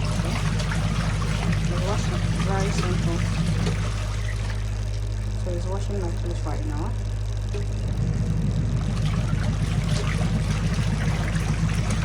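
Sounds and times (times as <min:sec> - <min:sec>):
water and clothes churning: 0:00.0 - 0:06.2, 0:07.5 - 0:12.0
washing machine motor hum: 0:00.0 - 0:12.0.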